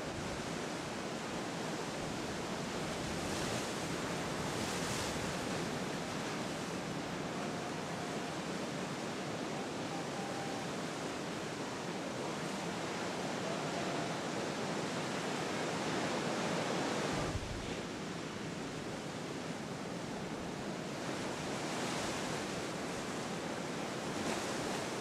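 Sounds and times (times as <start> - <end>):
ocean surf breaking: 1.8 - 25.0.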